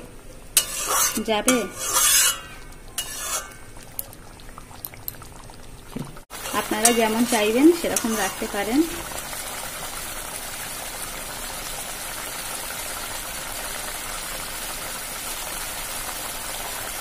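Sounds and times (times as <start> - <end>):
curry bubbling and sizzling: 0.3 - 17.0.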